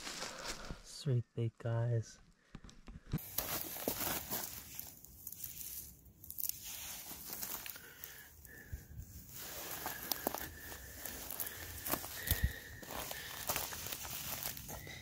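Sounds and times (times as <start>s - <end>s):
dry pine needles crackling: 0.0s - 0.9s, 3.2s - 15.0s.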